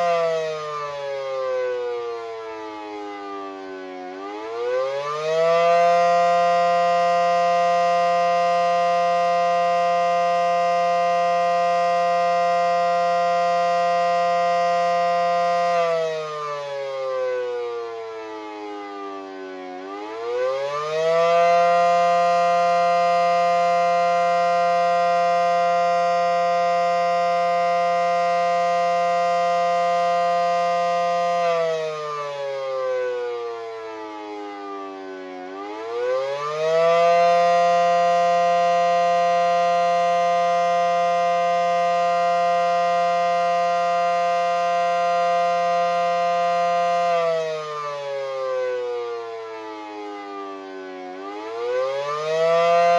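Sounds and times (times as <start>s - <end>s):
outdoor warning siren wailing: 0.0s - 52.9s.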